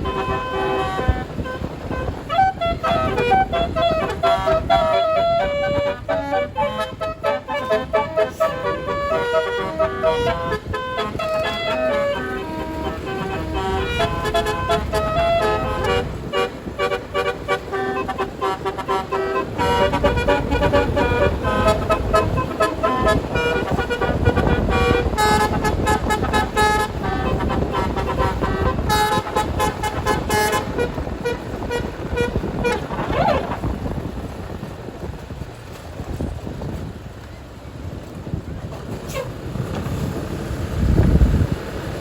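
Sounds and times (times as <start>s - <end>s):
musical air horn melody: 0.0s - 33.8s
bus engine and road rumble: 0.0s - 42.0s.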